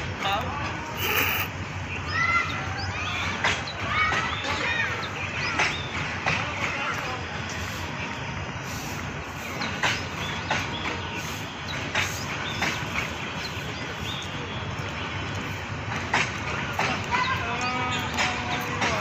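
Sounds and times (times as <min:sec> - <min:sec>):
sharp clanks of wheels and couplings: 0:00.0 - 0:08.4, 0:09.3 - 0:19.0
train coaches rumbling on track: 0:00.0 - 0:19.0.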